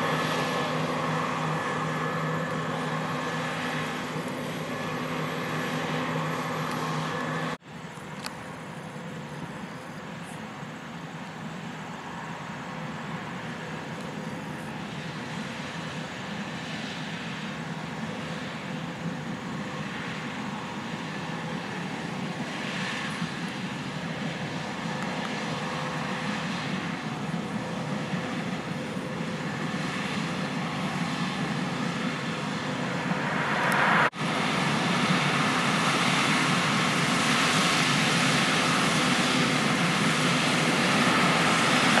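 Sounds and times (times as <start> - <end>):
combine harvester engine drone: 0.0 - 42.0.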